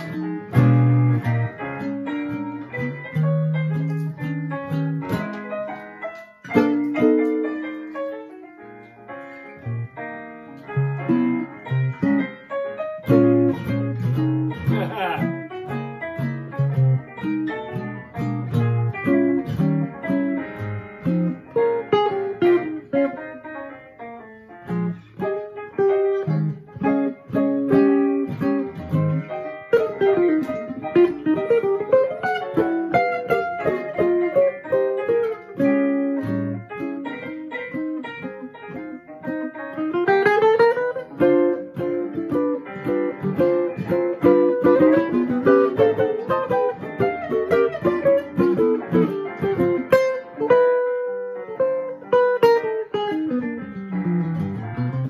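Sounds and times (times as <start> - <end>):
electric guitar playing jazz: 0.0 - 55.0.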